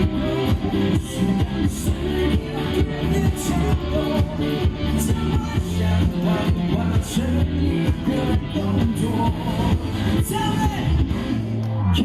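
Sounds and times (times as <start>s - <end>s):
pop-rock band instrumental: 0.0s - 11.8s.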